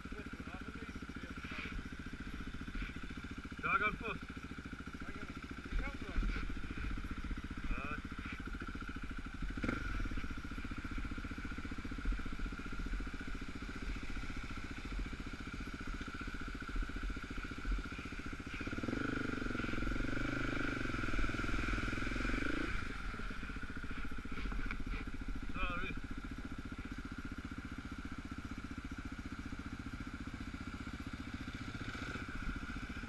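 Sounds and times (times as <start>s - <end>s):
dirt bike engine at low speed: 0.0s - 33.0s.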